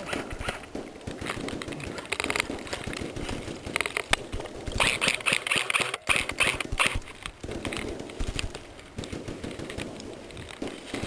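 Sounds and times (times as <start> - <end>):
airsoft guns firing bursts: 0.0 - 11.0.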